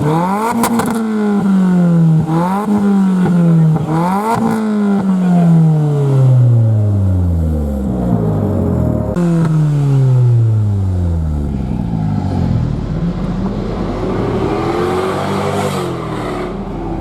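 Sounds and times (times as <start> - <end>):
car engines driving past: 0.0 - 17.0.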